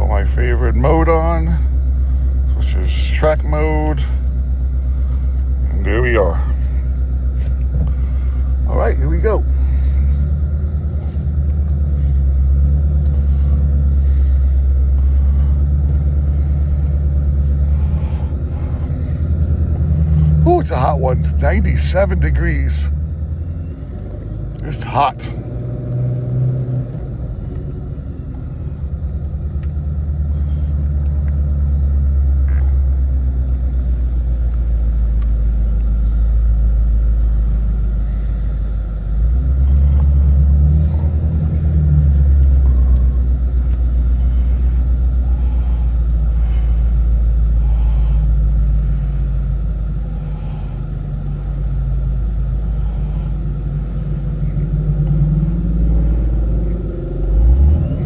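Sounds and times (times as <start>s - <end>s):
car exhaust drone from inside: 0.0s - 58.0s.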